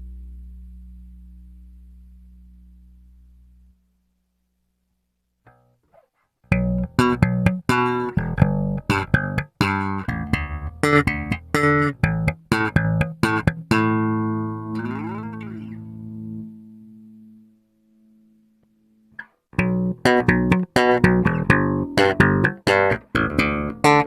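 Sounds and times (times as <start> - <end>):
electric bass notes: 0.0 - 4.5, 6.4 - 24.0.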